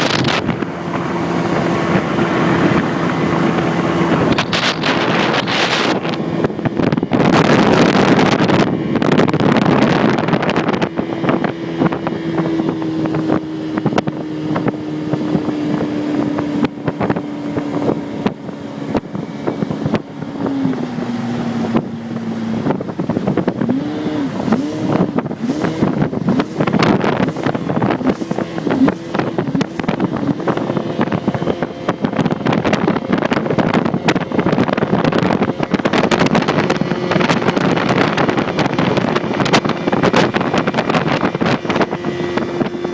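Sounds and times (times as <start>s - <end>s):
speedboat motor running: 0.0s - 42.9s
wind on microphone: 0.0s - 42.9s.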